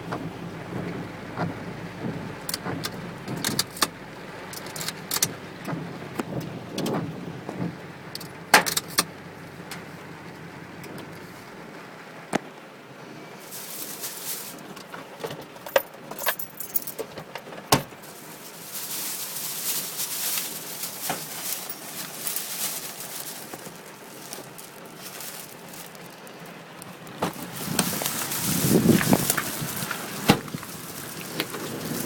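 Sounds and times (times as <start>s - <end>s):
rain and hail on a car: 0.0s - 9.1s, 13.4s - 32.0s.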